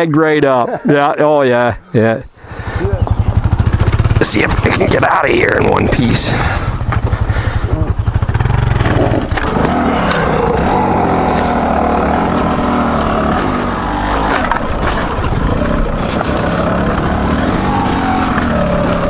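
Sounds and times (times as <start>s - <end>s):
dirt bike engine revving: 2.4s - 19.0s.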